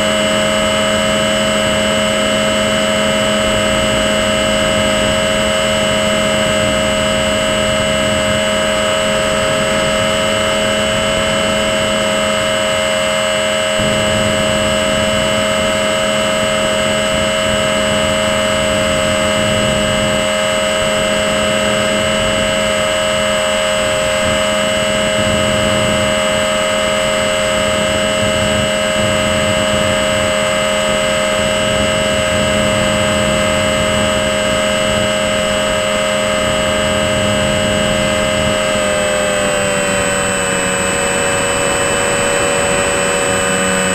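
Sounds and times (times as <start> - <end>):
model plane motor whine: 0.0 - 43.9
wind rushing over microphone: 0.0 - 43.9.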